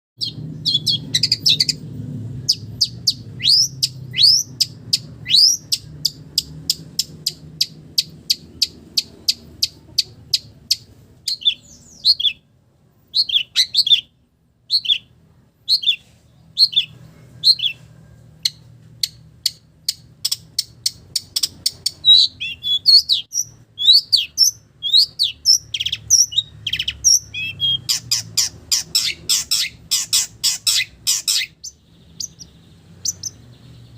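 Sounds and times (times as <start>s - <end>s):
bird singing high chirps: 0.2s - 12.5s, 13.1s - 33.9s.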